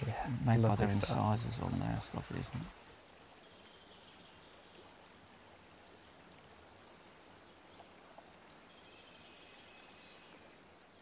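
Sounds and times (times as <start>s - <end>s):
distant stream: 0.0s - 11.0s.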